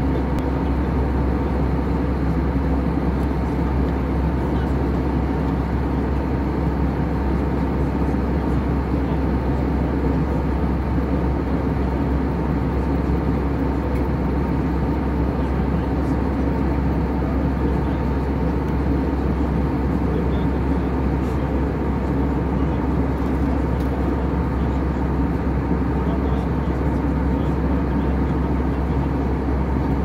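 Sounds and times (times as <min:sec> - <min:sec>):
airliner cabin engine rush: 0:00.0 - 0:30.0.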